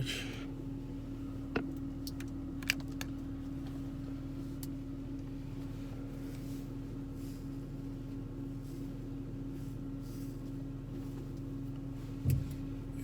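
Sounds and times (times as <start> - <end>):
vehicle idling hum: 0.0 - 13.0.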